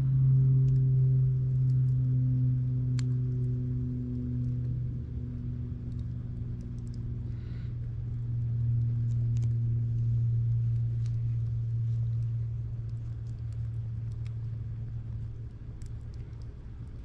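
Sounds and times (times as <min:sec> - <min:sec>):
steady low hum: 0:00.0 - 0:17.0
campfire crackling and popping: 0:00.3 - 0:17.0.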